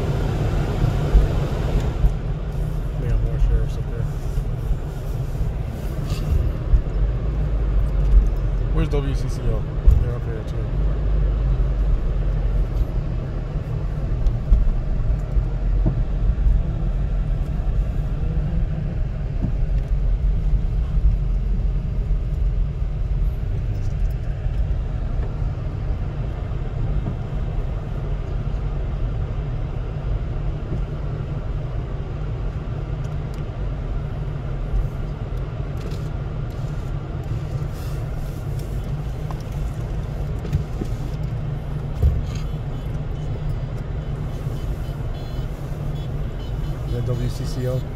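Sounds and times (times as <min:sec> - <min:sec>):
car engine and tyres rumbling: 0:00.0 - 0:47.9.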